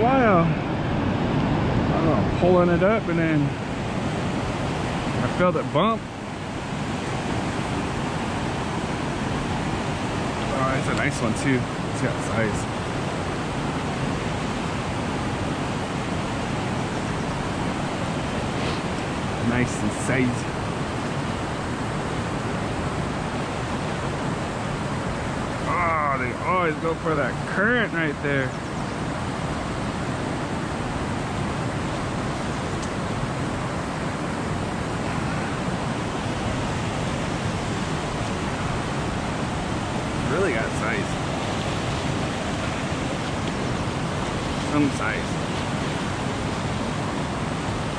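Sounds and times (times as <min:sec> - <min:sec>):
creek water rushing: 0:00.0 - 0:47.9.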